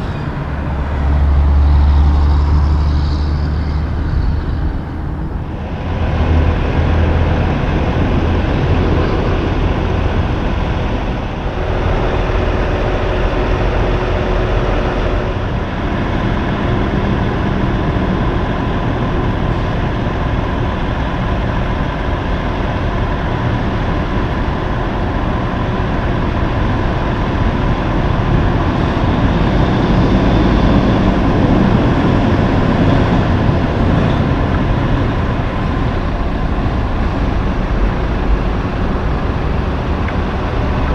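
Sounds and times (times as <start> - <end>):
diesel trucks running: 0.0 - 40.9
road traffic passing: 0.0 - 40.9.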